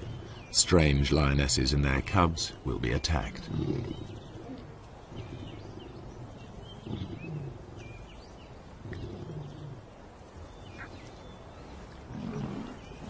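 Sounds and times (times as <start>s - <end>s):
lions giving low calls: 0.0s - 1.4s, 2.7s - 13.0s
birds chirping: 0.0s - 13.0s.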